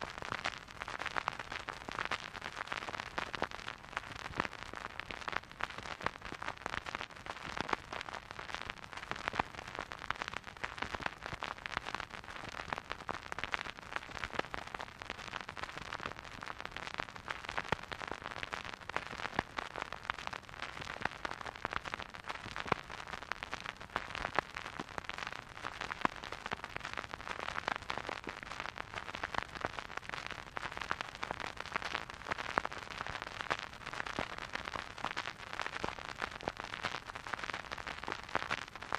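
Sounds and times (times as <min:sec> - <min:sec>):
vinyl record crackle and hiss: 0:00.0 - 0:38.9.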